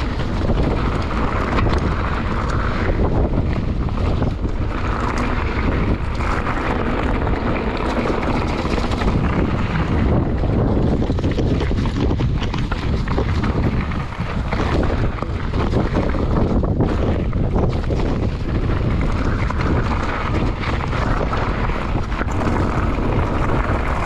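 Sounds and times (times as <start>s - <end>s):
bike clattering over stones: 0.0s - 24.0s
bike tyres rumbling on gravel: 0.0s - 24.0s
wind buffeting microphone: 0.0s - 24.0s.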